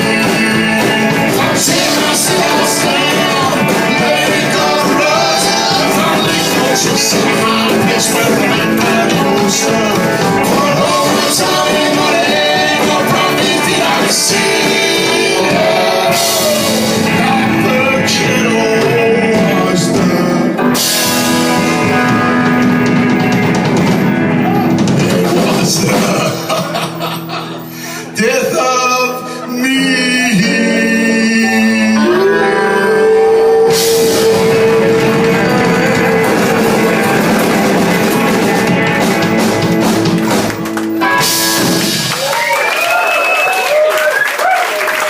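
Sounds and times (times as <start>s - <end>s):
country-rock band playing: 0.0s - 45.0s.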